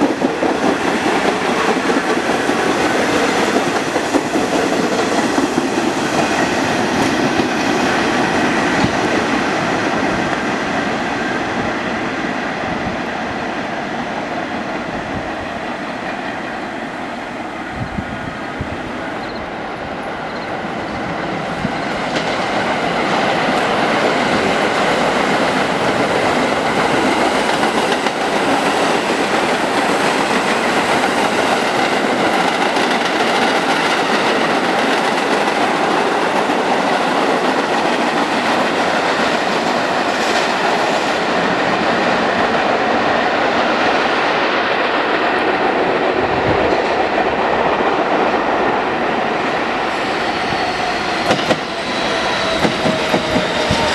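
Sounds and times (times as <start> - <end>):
subway train running on track: 0.0 - 53.9.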